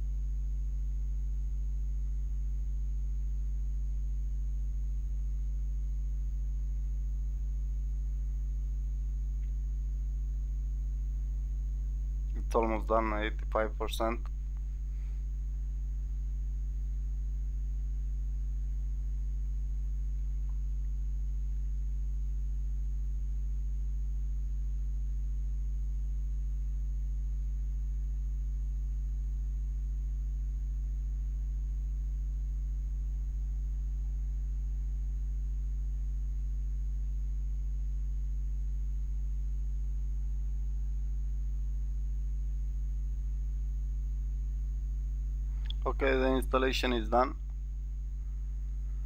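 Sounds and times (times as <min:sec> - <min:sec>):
electrical mains hum: 0:00.0 - 0:49.0
faint high-pitched whine: 0:00.0 - 0:49.0.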